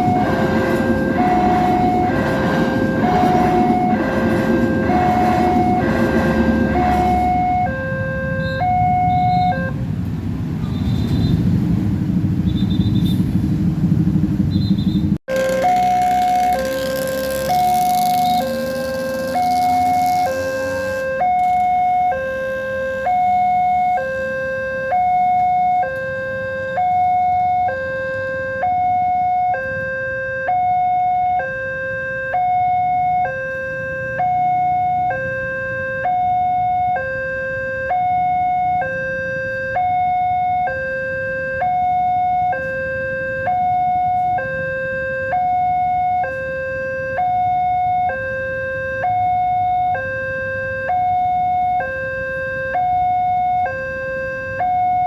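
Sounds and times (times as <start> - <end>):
level crossing warning alarm: 0.0 - 9.8, 15.3 - 55.0.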